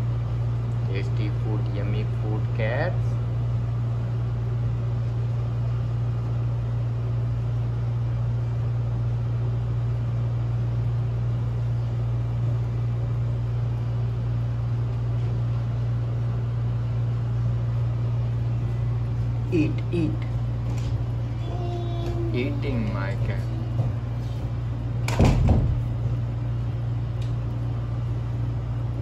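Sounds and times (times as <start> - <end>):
steady low hum with hiss: 0.0 - 29.0.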